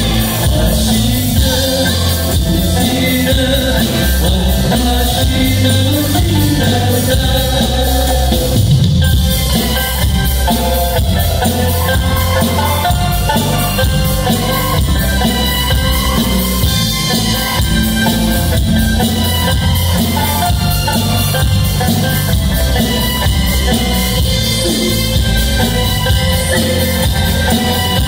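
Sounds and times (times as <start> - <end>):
drum and bass accompaniment: 0.0 - 28.0.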